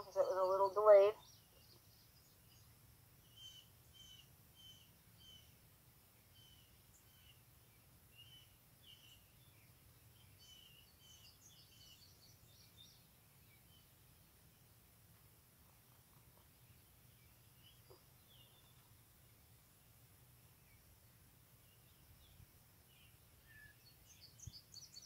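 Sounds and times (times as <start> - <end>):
faint bird chirps: 0.0 - 5.6, 6.2 - 14.6, 16.0 - 21.0, 21.6 - 25.0.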